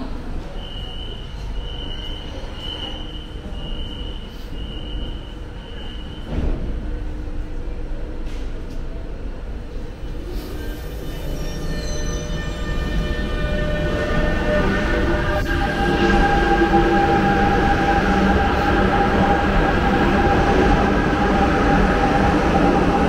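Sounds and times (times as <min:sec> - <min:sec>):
train whine of steady tones: 0:00.0 - 0:23.0.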